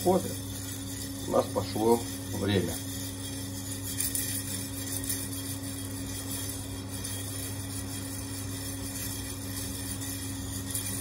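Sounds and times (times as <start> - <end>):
coffee beans rattling in roaster: 0.0 - 11.0
steady low hum: 0.0 - 11.0.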